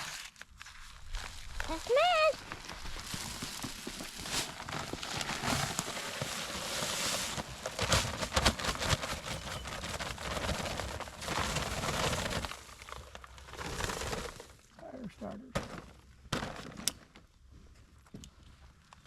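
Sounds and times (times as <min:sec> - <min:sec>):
concrete mix scraping: 0:00.0 - 0:16.7.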